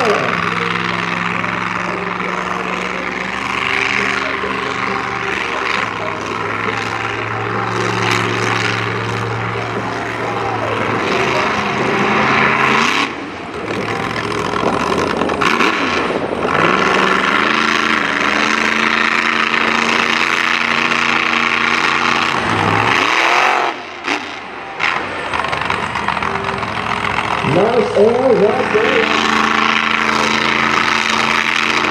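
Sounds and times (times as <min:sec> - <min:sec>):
truck engine revving hard: 0:00.0 - 0:31.9.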